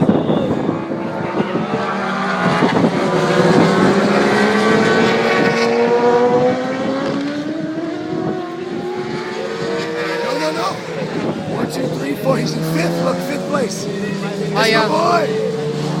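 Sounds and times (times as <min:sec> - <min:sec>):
motorcycles accelerating: 0:00.0 - 0:16.0.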